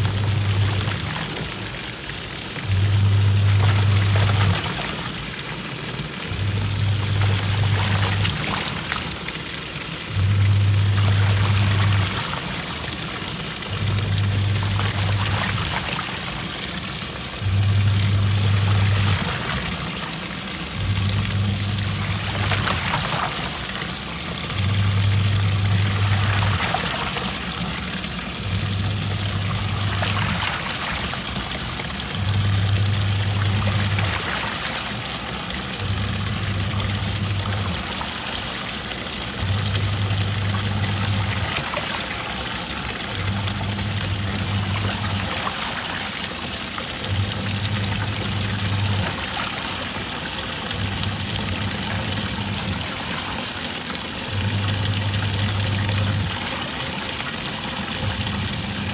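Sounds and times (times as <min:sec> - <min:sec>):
washing machine motor humming: 0:00.0 - 0:58.9
water swishing in tub: 0:00.0 - 0:58.9.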